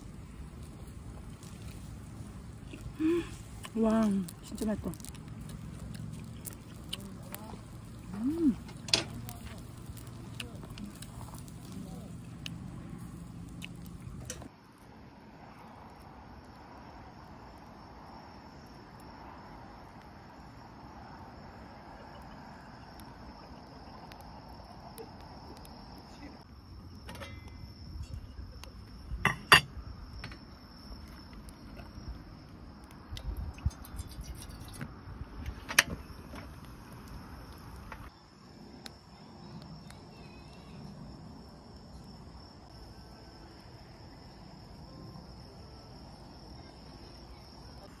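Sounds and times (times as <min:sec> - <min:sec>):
crickets chirring: 0:00.0 - 0:48.0.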